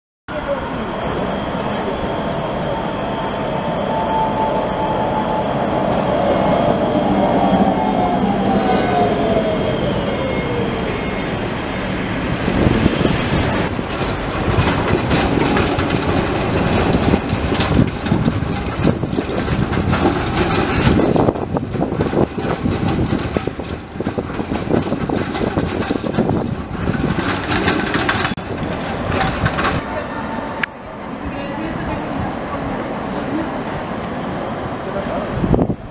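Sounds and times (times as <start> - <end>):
tram wheels knocking and squealing: 0.3 - 30.8
tram motor whine: 0.3 - 32.0
street noise: 0.3 - 35.9.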